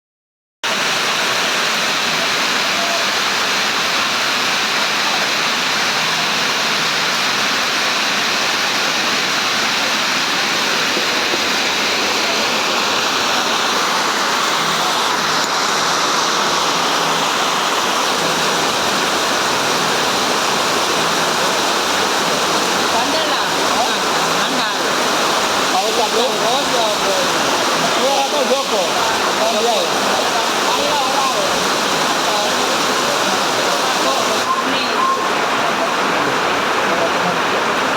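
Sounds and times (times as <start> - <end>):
rain pouring: 0.6 - 37.9.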